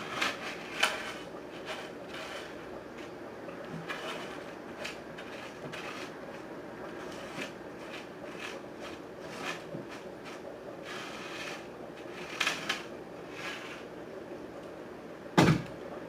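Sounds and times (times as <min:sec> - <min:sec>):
objects being handled: 0:00.0 - 0:13.9.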